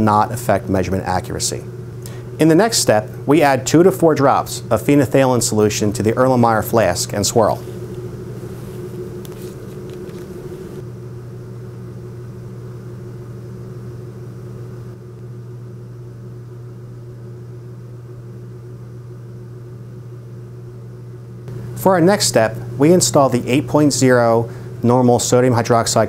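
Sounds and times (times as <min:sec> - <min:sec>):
low room tone hum: 0:00.0 - 0:26.0.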